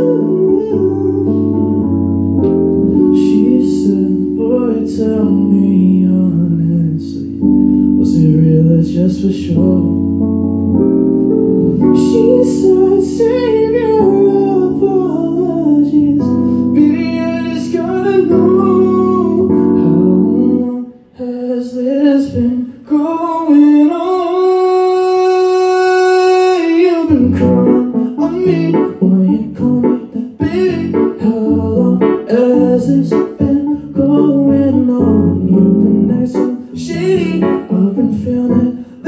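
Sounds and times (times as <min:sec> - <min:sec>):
man singing into a microphone: 0:00.0 - 0:02.0, 0:03.1 - 0:10.2, 0:11.9 - 0:39.0
stage piano chords: 0:00.0 - 0:39.0.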